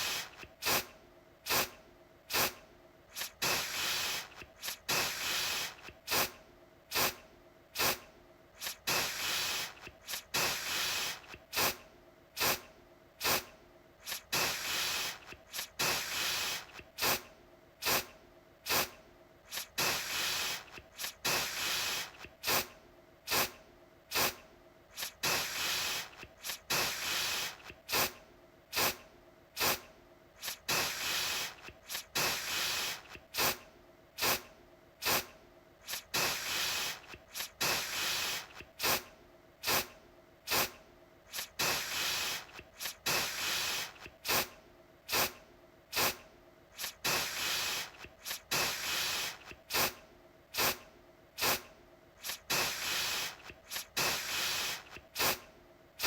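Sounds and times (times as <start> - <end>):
aerosol can spraying: 0.0 - 0.9, 1.5 - 7.2, 7.8 - 8.0, 8.6 - 11.8, 12.4 - 18.1, 18.7 - 22.7, 23.3 - 29.0, 29.6 - 29.8, 30.4 - 33.6, 34.2 - 39.9, 40.5 - 44.5, 45.1 - 46.2, 46.8 - 50.8, 51.4 - 55.4.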